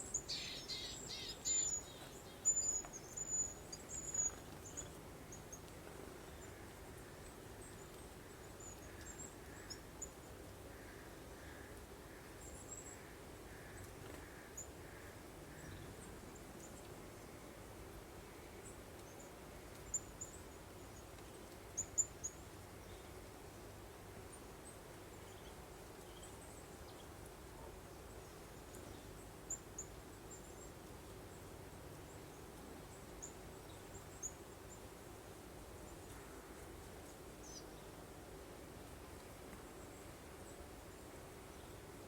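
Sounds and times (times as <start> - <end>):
faint breeze-like hiss: 0.0 - 42.0.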